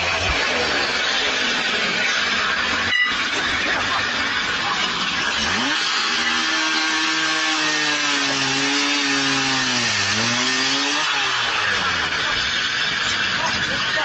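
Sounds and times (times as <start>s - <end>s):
angle grinder cutting metal: 0.0s - 14.0s.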